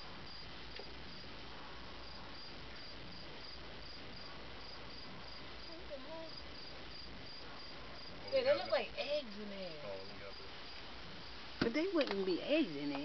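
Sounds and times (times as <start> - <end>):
crickets chirping: 0.0 - 13.0
faint background hiss: 0.0 - 13.0.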